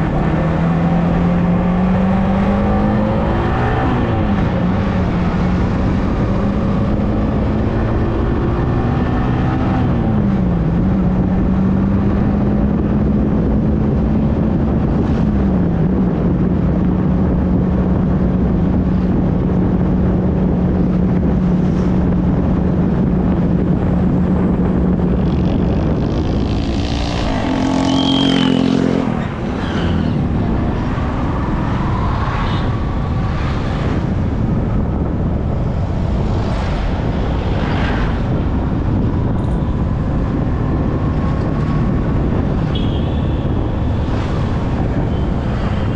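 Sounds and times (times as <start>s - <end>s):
wind noise: 0.0s - 45.9s.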